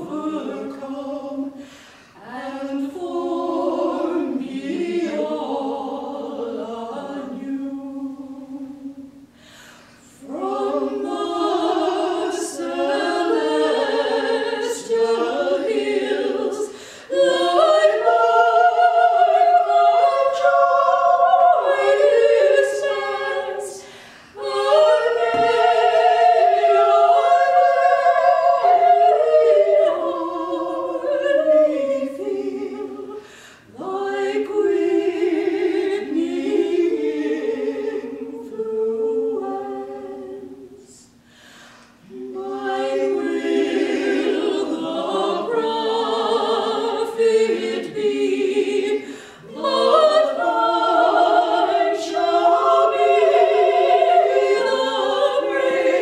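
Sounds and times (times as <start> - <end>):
women singing a cappella: 0.0 - 56.0.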